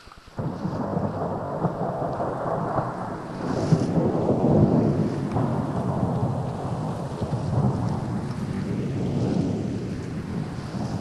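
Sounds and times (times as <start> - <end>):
wind buffeting microphone: 0.4 - 11.0.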